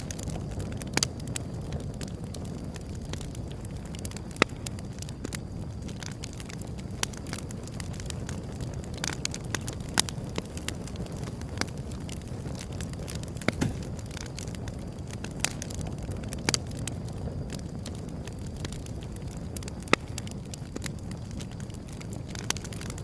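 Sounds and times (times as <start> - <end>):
fire crackling and popping: 0.0 - 23.0
flame rushing: 0.0 - 23.0.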